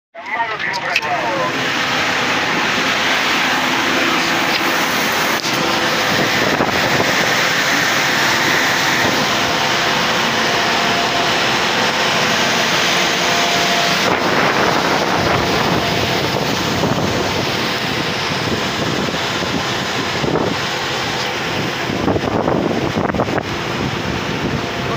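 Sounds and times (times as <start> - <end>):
combine harvester running: 0.2 - 24.9
wind buffeting microphone: 1.5 - 24.9.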